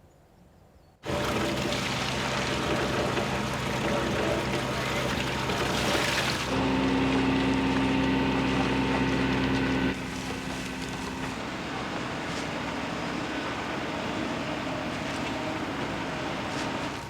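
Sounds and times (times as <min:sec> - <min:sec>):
motor humming: 0:01.0 - 0:17.0.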